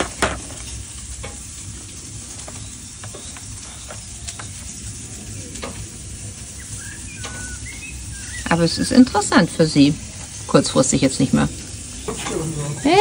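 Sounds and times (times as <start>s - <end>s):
crackles and pops: 0.0s - 13.0s
food sizzling on a grill: 0.0s - 13.0s.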